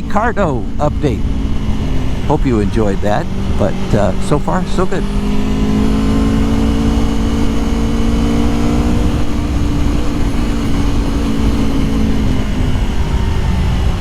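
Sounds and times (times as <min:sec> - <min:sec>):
low wind rumble: 0:00.0 - 0:14.0
motorcycle engine cruising: 0:00.0 - 0:14.0.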